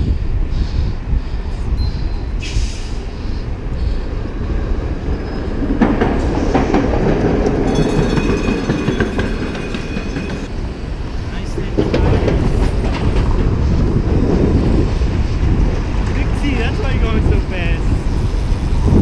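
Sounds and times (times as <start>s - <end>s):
wind rumble on microphone: 0.0s - 19.0s
streetcar wheels clanking on rails: 1.8s - 19.0s.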